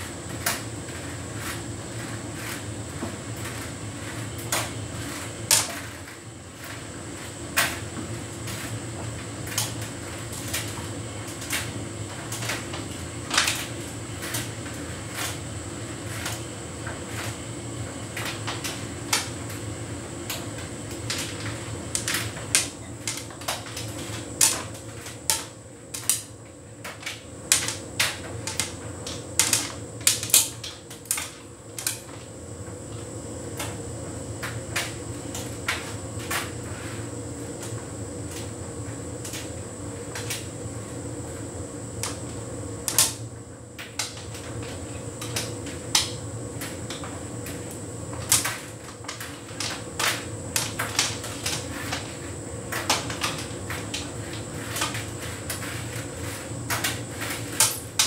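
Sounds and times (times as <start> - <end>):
tumble dryer humming: 0.0 - 58.0.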